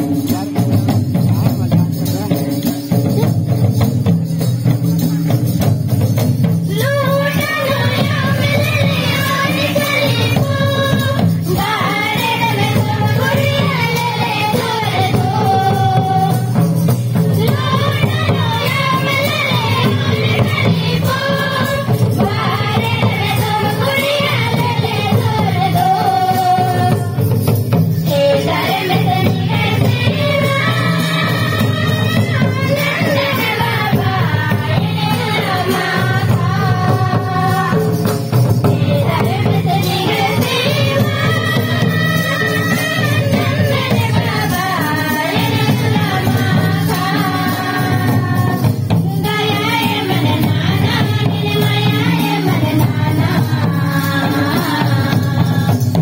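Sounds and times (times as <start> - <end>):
women and girls singing: 4.4 - 56.0.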